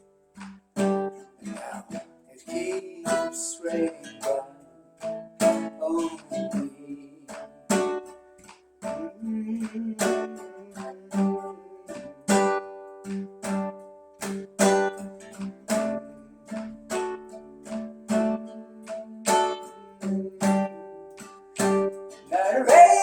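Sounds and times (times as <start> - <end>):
acoustic string instrument strumming: 0.0 - 23.0.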